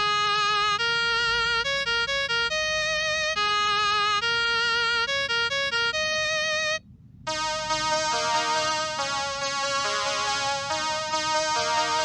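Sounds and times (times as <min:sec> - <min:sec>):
electronic keyboard tune: 0:00.0 - 0:12.0
synthesizer melody with vibrato: 0:00.0 - 0:12.0.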